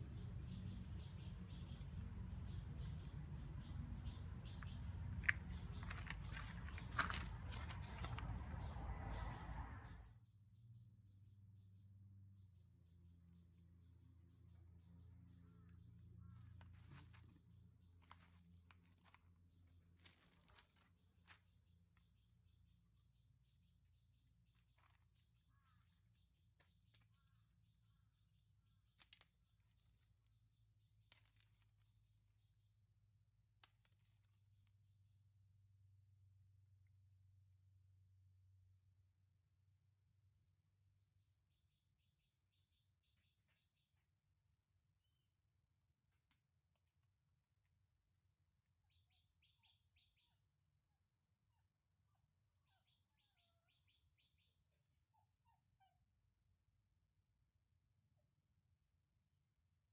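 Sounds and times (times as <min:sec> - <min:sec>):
faint small birds chirping: 0:00.0 - 0:10.2, 0:12.4 - 0:35.2, 0:41.1 - 0:56.6.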